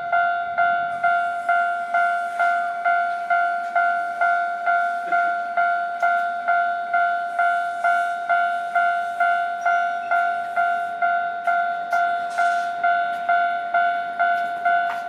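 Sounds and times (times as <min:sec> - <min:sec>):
level-crossing warning bell: 0:00.0 - 0:15.0.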